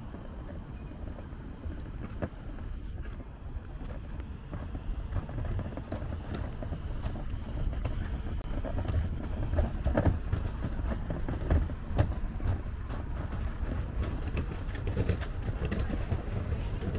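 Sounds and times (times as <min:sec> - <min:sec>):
low city rumble: 0:00.0 - 0:16.9.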